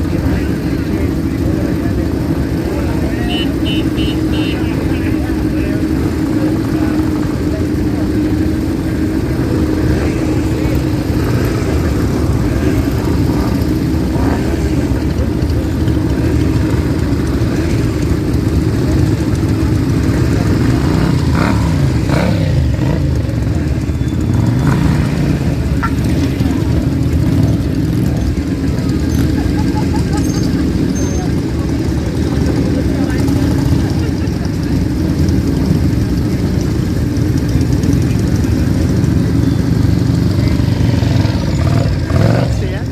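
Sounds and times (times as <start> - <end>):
motorcycle engine idling: 0.0 - 42.9
motorcycle engines revving: 0.0 - 42.9.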